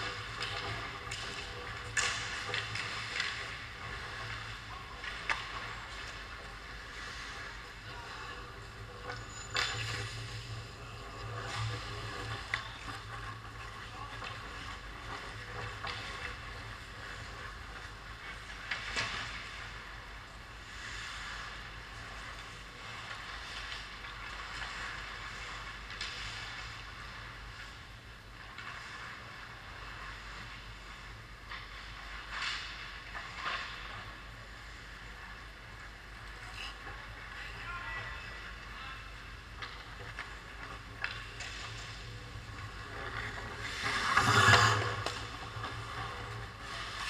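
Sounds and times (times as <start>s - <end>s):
skate scrapes or knocks: 0.0s - 36.0s, 39.5s - 47.0s
constant low hum: 0.0s - 47.0s.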